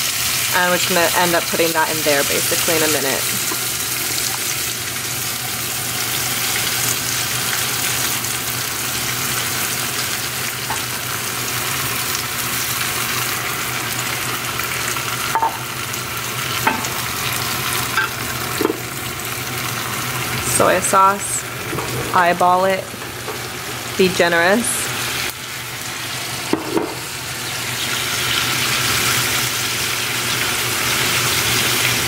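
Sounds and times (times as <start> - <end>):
food sizzling in frying pan: 0.0 - 32.0.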